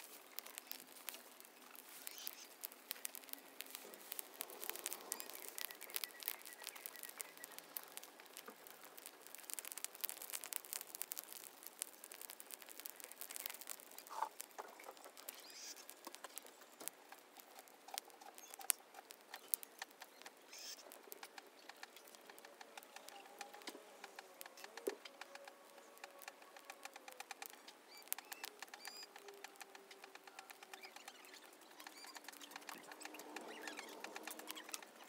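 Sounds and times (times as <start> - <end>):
burning weeds crackling and popping: 0.0 - 35.0
faint bird calls: 1.5 - 8.0, 12.8 - 35.0.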